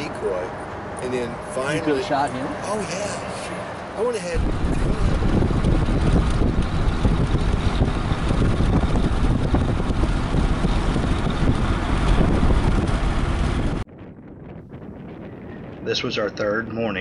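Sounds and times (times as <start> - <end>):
wind and road noise in vehicle: 0.0 - 17.0.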